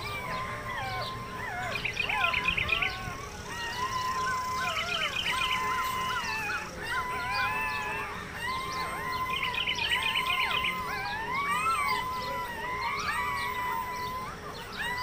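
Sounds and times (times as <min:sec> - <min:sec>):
puppies squeaking and whining: 0:00.0 - 0:15.0.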